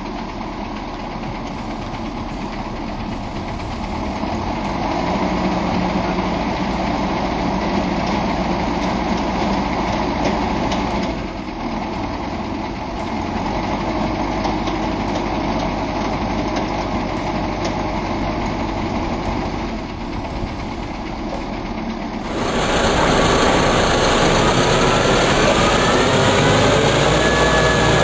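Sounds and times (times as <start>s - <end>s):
heavy truck engine running: 0.0s - 28.0s.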